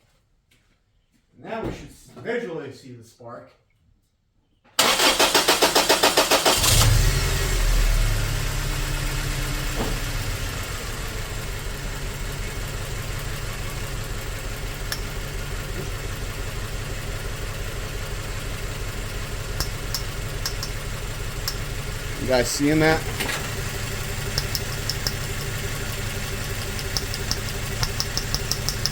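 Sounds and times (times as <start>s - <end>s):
car engine cranking and idling: 4.8s - 28.9s.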